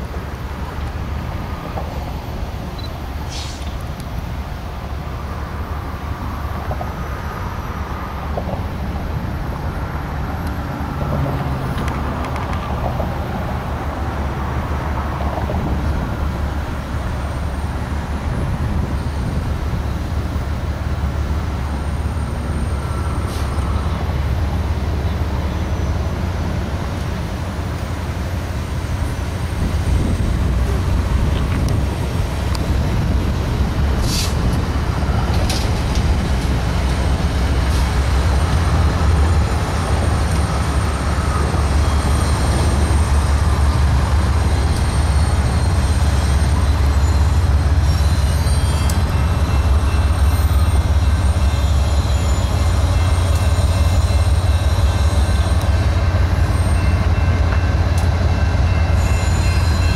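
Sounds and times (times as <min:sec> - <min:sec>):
diesel locomotives rumbling: 0:00.0 - 0:59.9.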